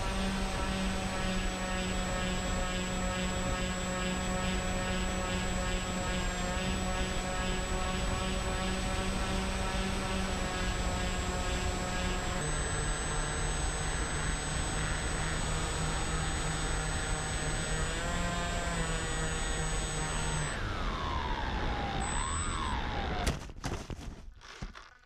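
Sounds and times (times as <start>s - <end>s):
electric motors whining: 0.0s - 23.4s.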